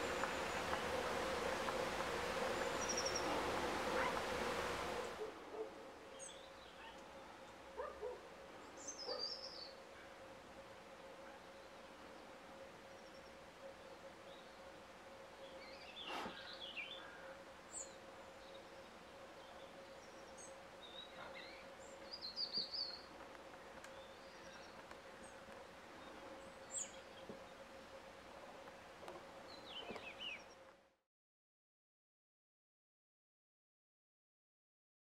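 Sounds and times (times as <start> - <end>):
songbirds chirping and ticking: 0.0 - 30.8
faint steady hum: 0.0 - 31.0.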